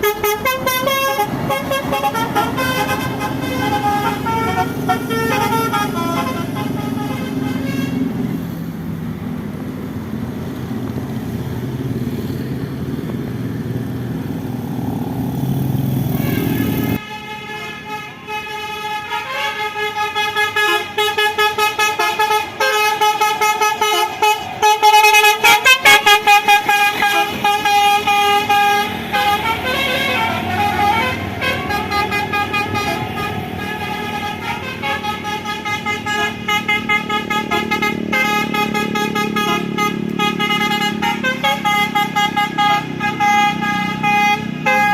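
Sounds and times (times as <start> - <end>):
bus melody horn: 0.0 - 8.4, 16.1 - 44.9.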